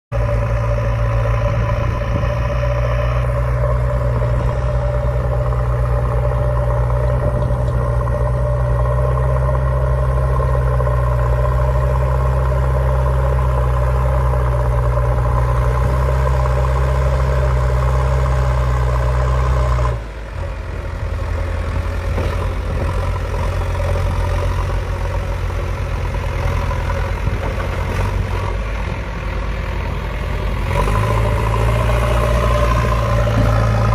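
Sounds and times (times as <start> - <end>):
backhoe loader engine running: 0.1 - 33.9.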